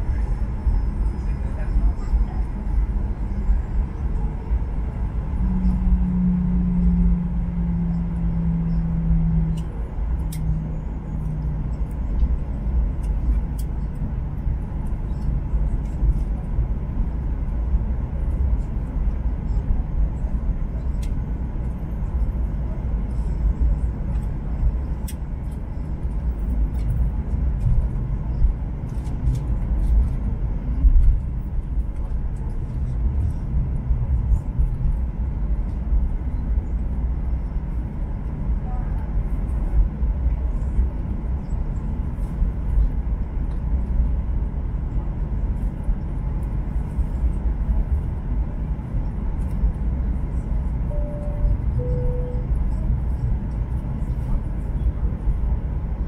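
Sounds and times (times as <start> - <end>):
jet engines rumbling: 0.0 - 56.0
steady hum: 0.0 - 56.0.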